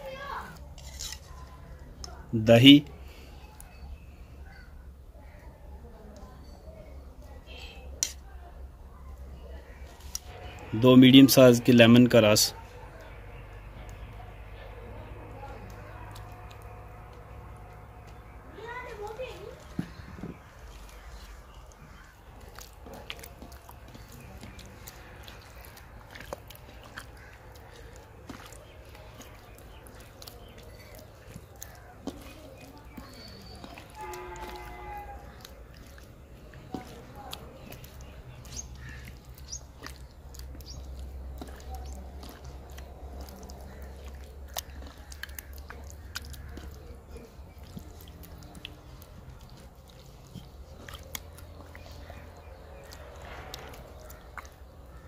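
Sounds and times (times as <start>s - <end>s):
hand squelching wet marinade: 0.0s - 55.0s.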